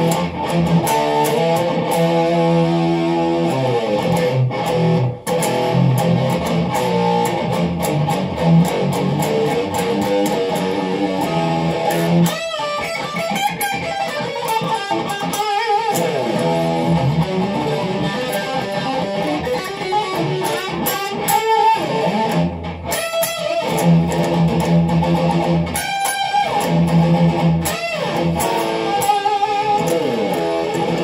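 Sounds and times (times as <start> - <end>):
electric guitar strumming chords: 0.0 - 31.0.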